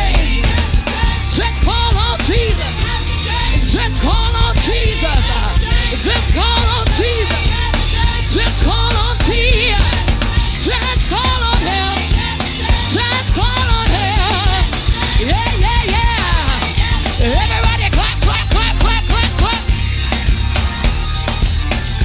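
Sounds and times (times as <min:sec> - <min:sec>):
person singing a melody: 0:00.0 - 0:21.1
drum kit: 0:00.0 - 0:22.0
heavy bass: 0:00.0 - 0:22.0.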